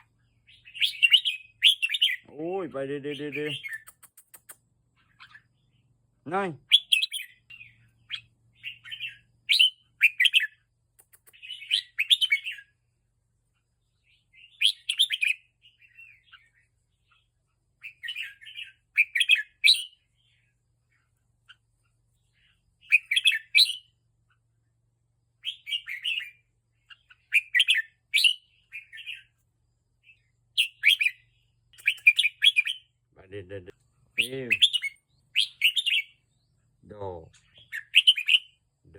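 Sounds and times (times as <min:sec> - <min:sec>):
bird chirping song: 0:00.0 - 0:38.9.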